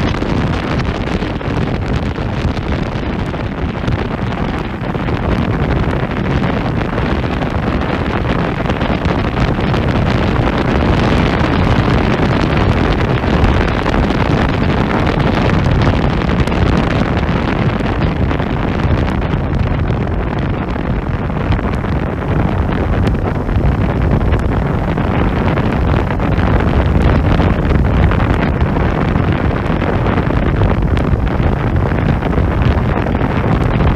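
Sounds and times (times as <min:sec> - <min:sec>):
motorcycle engine and exhaust: 0:00.0 - 0:33.9
wind rushing over microphone: 0:00.0 - 0:33.9.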